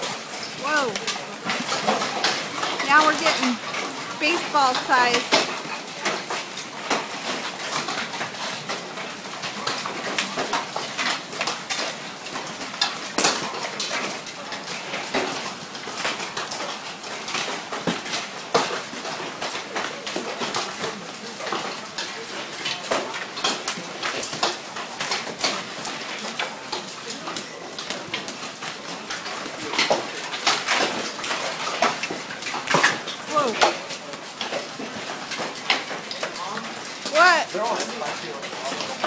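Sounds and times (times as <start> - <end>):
hailstones clattering: 0.0 - 39.0.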